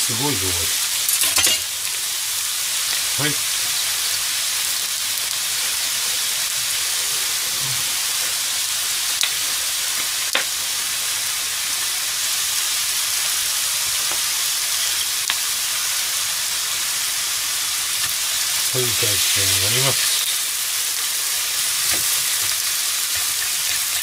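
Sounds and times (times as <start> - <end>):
food frying in oil: 0.0 - 24.0.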